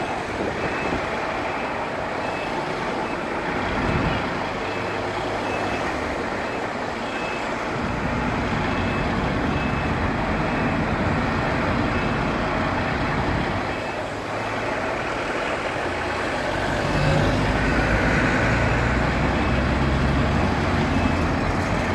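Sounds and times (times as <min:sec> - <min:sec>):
cars passing: 0:00.0 - 0:21.9
diesel engines running: 0:00.0 - 0:21.9.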